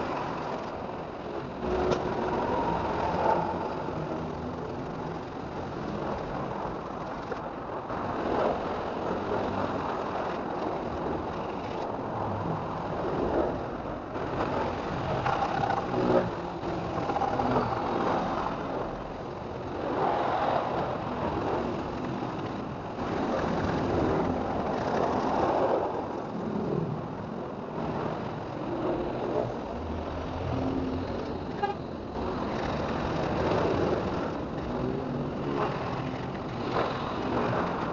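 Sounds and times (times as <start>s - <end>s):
motor vehicle engine noise: 0.0s - 37.9s.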